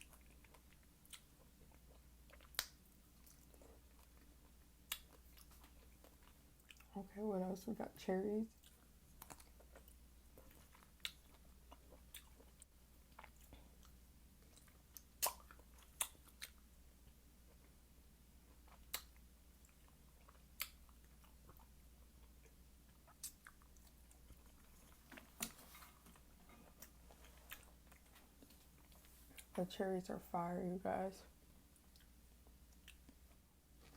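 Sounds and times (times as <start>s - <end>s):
chewing cherries: 0.0s - 7.0s, 8.5s - 17.8s, 18.4s - 29.6s, 31.6s - 33.9s.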